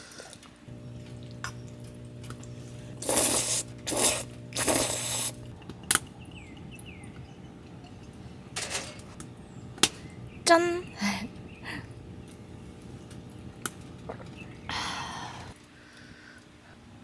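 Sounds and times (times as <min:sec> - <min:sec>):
low hum: 0:00.6 - 0:15.6.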